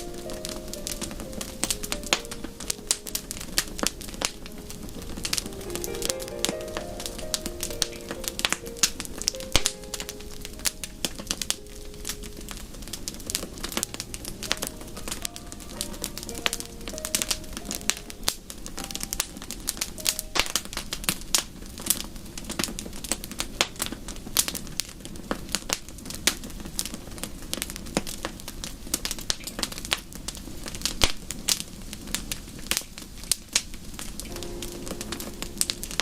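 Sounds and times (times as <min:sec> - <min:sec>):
low steady hiss: 0:00.0 - 0:36.0
wood fire crackling: 0:00.0 - 0:36.0.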